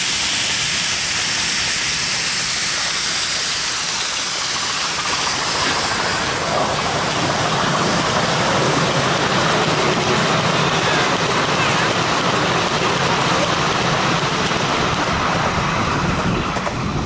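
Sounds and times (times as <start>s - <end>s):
coach wheels rumbling on rails: 0.0s - 17.0s
steam hissing from locomotive: 0.0s - 17.0s.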